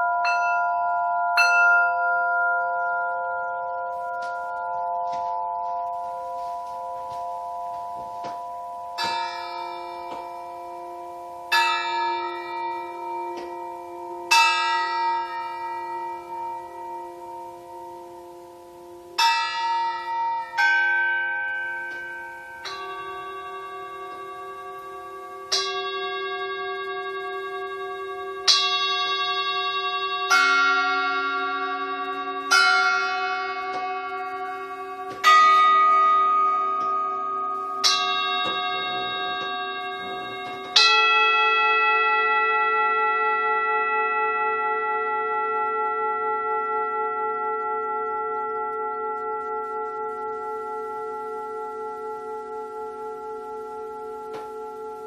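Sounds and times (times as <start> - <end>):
bells ringing: 0.0 - 55.0.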